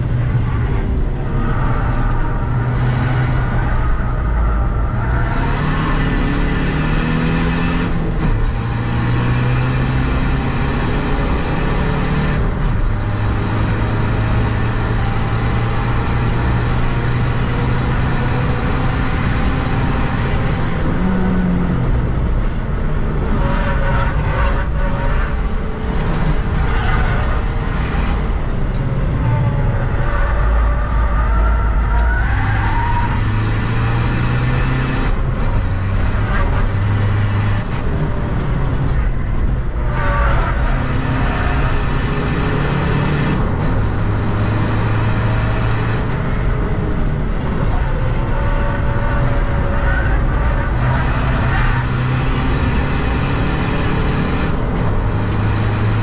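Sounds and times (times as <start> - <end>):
diesel engine changing gears: 0.0 - 56.0
road and wind noise: 0.0 - 56.0.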